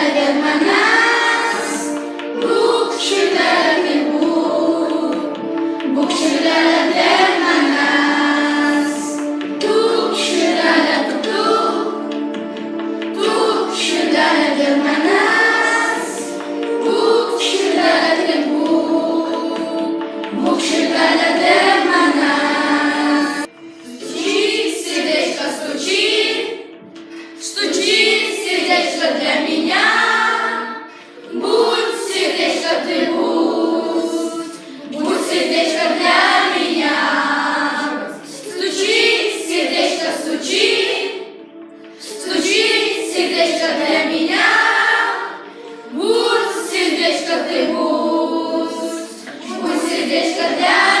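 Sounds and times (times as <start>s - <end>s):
children singing together: 0.0s - 51.0s.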